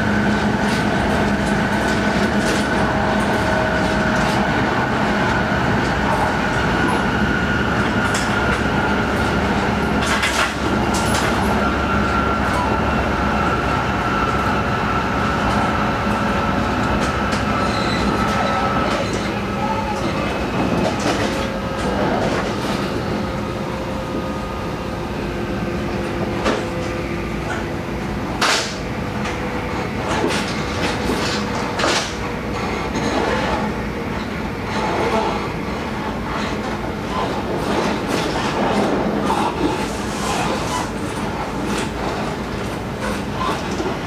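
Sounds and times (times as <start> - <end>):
train wheels and rushing air: 0.0 - 44.0.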